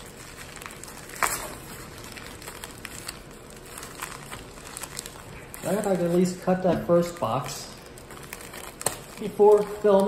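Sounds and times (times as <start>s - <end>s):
packaging wrap rustling: 0.0s - 10.0s.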